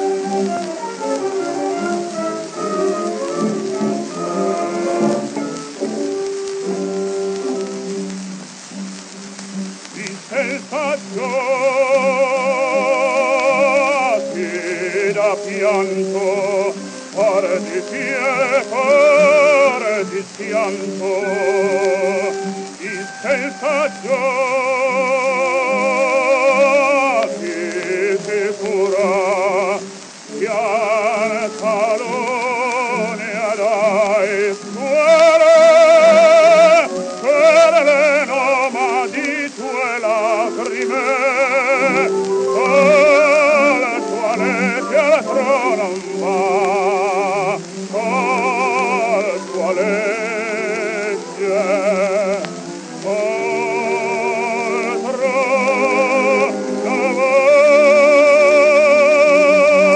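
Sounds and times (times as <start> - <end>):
operatic baritone singing: 0.0 - 59.9
record surface hiss and crackle: 0.0 - 59.9
sustained accompaniment: 0.0 - 59.9.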